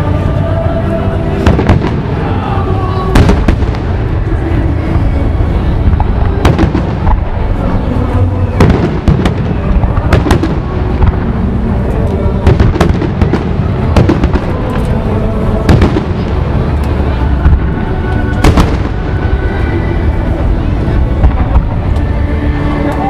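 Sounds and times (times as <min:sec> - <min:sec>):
low rumble of explosions: 0:00.0 - 0:22.7
fireworks bursting with sharp bangs: 0:01.2 - 0:23.0.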